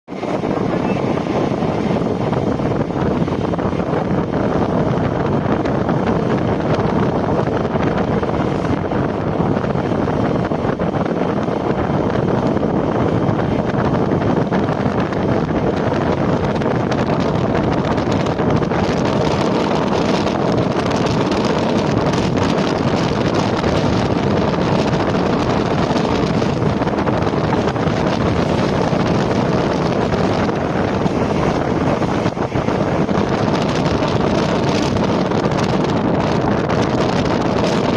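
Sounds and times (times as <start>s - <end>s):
wind rushing over microphone: 0.0s - 37.9s
railcar running noise: 0.1s - 37.9s.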